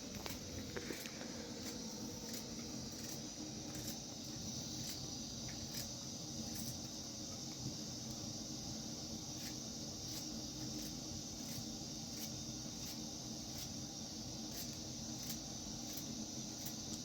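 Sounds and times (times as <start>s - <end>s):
faint irregular ticks: 0.0s - 8.4s, 9.3s - 17.0s
high hiss: 0.0s - 17.0s.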